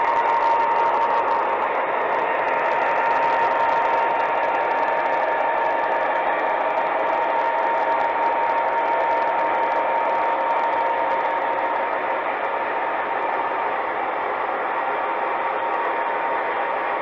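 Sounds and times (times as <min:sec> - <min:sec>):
constant hum: 0:00.0 - 0:17.0
model trains rumbling: 0:00.0 - 0:17.0.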